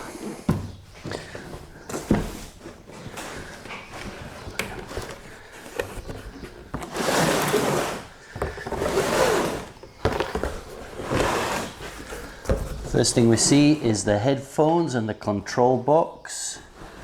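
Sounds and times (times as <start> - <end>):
cardboard box rustling and scraping: 0.0 - 14.2.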